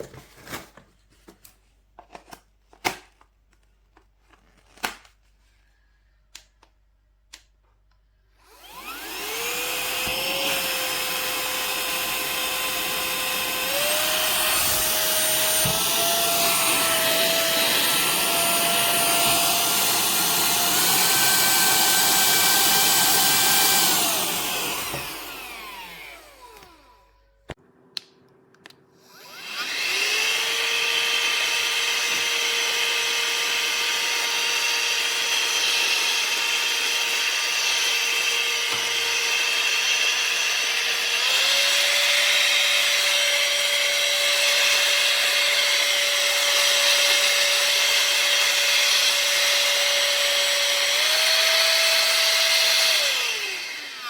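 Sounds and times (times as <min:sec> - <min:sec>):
handheld vacuum motor whine: 0:08.4 - 0:27.3, 0:29.0 - 0:54.0.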